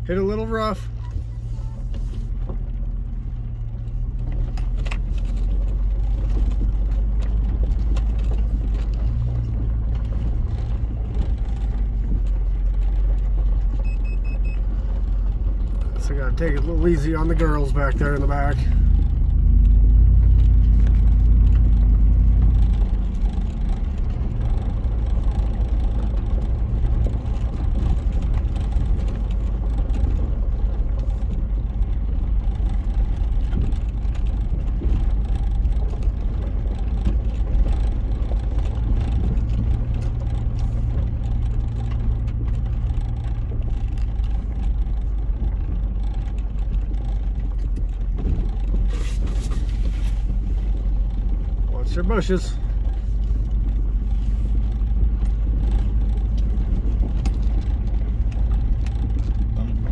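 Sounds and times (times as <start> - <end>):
knocks and rattles over bumps: 0.0 - 59.9
truck engine and road rumble: 0.0 - 59.9.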